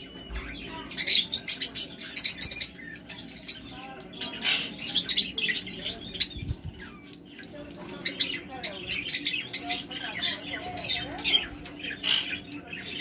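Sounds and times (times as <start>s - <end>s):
parrots chirping and twittering: 0.0s - 13.0s.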